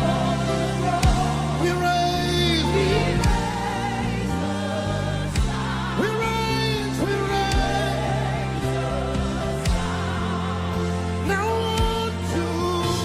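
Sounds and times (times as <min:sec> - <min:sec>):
keyboard pad chords: 0:00.0 - 0:13.0
low bass: 0:00.0 - 0:13.0
voices singing held notes: 0:00.0 - 0:13.0.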